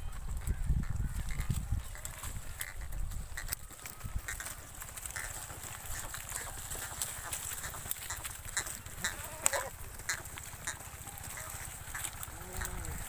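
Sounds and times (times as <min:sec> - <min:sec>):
rustling: 0:01.1 - 0:13.0
goat bleating: 0:01.2 - 0:13.0.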